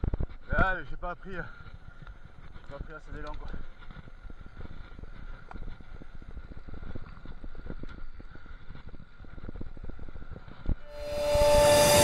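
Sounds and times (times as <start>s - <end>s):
bike rattling over rough trail: 0.0s - 10.8s.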